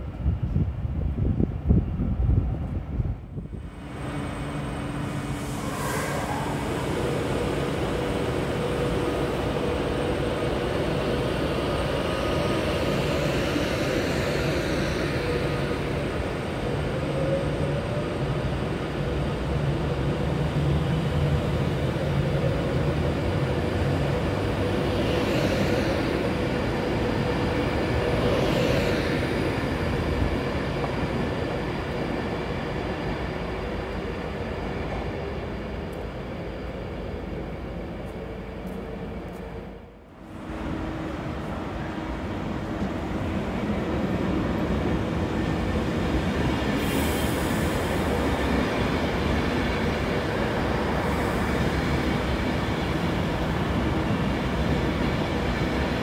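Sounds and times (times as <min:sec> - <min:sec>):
train running past: 0:00.0 - 0:56.0.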